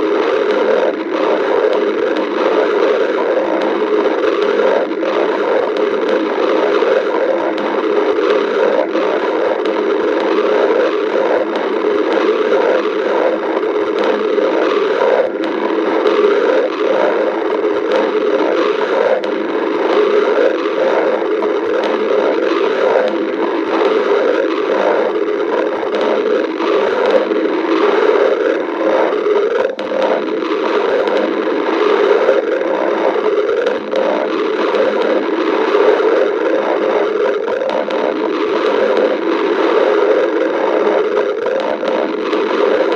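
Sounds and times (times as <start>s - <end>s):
stomach growling: 0.0s - 42.9s.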